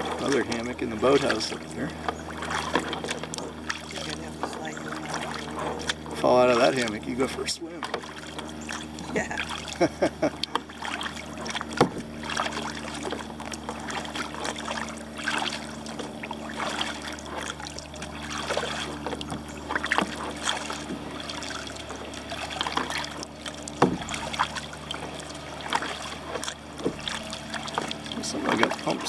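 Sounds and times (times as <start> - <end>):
paddle splashing water: 0.0 - 29.0
steady low hum: 0.0 - 29.0.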